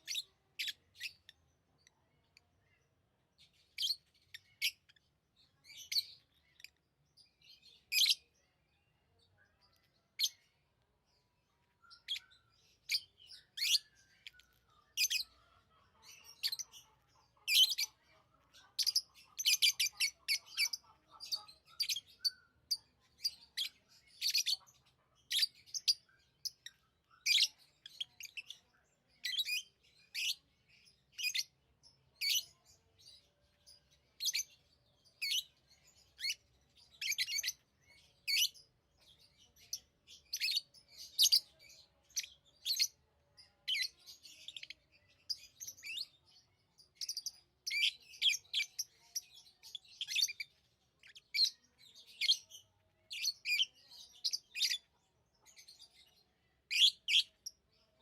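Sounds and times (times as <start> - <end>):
lovebirds chirping: 0.0 - 58.0
soft low chatter: 0.0 - 58.0.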